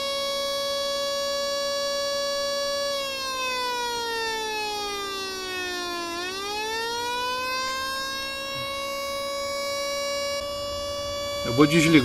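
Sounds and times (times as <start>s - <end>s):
electronic siren gliding in pitch: 0.0s - 12.0s.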